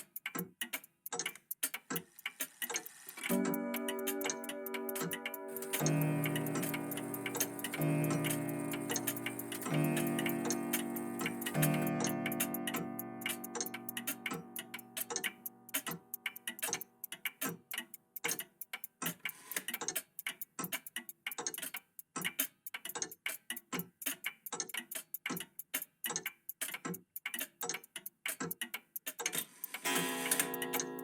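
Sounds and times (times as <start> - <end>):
mechanical clocks ticking: 0.0 - 31.0.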